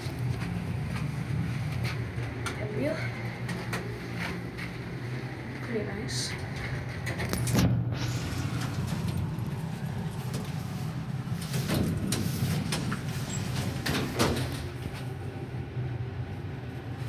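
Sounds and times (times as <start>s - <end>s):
elevator clunks and rattles: 0.0s - 16.3s
elevator hum: 0.0s - 17.0s.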